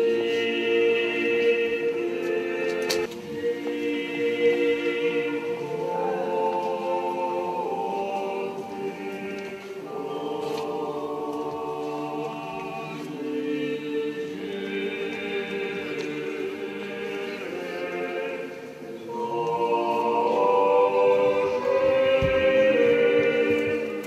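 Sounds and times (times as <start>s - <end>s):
choir singing slow chant: 0.0s - 24.0s.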